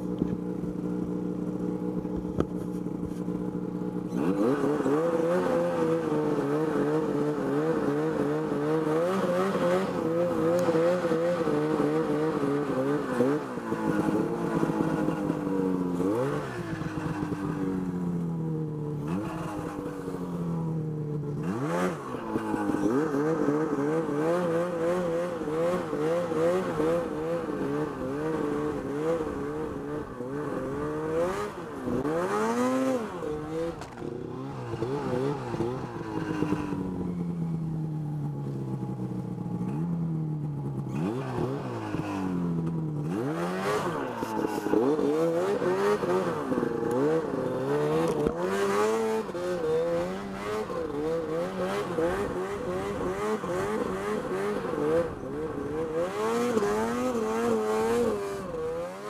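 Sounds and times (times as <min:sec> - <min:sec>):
snowmobile engine revving: 0:04.0 - 0:17.8, 0:21.3 - 0:37.2, 0:40.7 - 0:59.0.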